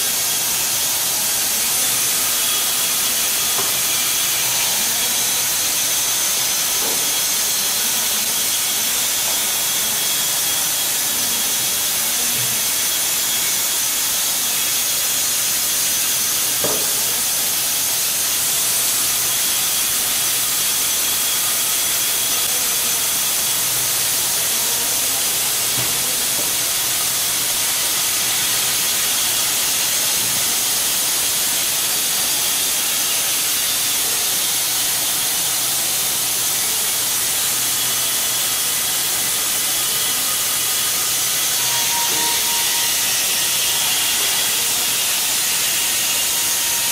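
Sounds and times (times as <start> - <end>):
band saw blade cutting log: 0.0 - 46.9.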